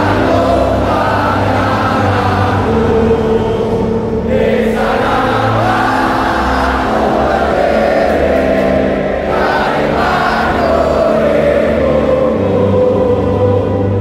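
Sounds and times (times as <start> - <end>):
stadium crowd singing in unison: 0.0 - 14.0.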